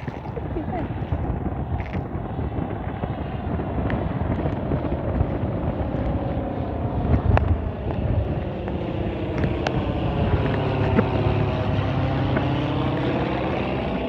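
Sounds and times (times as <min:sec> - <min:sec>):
propeller aircraft engine droning: 0:00.0 - 0:14.0.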